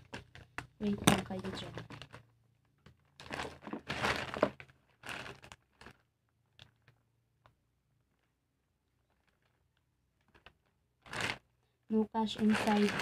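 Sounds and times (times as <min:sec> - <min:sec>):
plastic and paper crinkling: 0:00.0 - 0:07.0, 0:08.0 - 0:11.6, 0:12.2 - 0:13.0.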